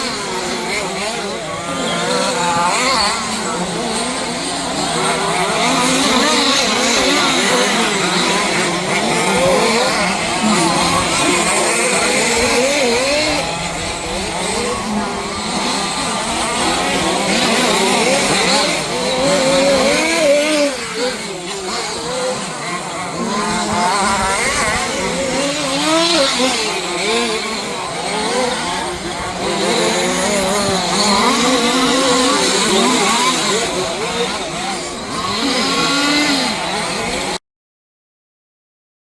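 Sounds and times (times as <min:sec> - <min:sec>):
small two-stroke engines revving: 0:00.0 - 0:37.4.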